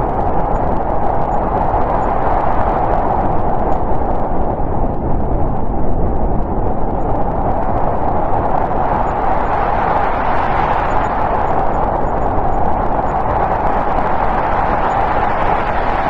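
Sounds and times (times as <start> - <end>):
snowstorm wind blowing: 0.0 - 16.0.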